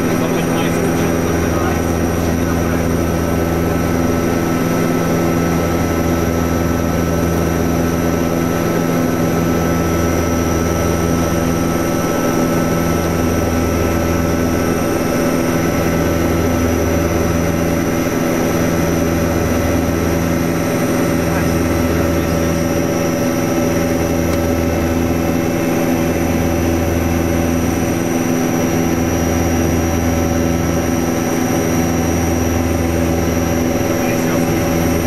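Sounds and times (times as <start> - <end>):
turboprop engines droning in flight: 0.0 - 35.0.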